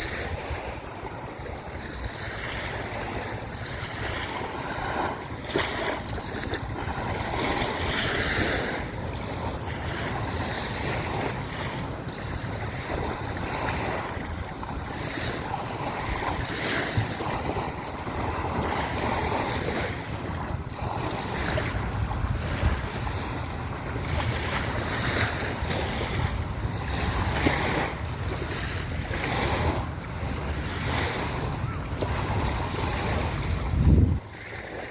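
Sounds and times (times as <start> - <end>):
waves washing onto sandy beach: 0.0 - 34.9
wind buffeting microphone: 0.0 - 34.9.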